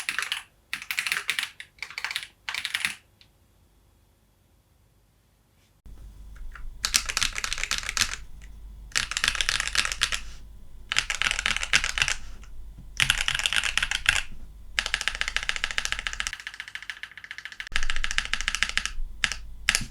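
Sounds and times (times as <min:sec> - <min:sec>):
typing on mechanical keyboard: 0:00.0 - 0:03.1, 0:06.4 - 0:19.9.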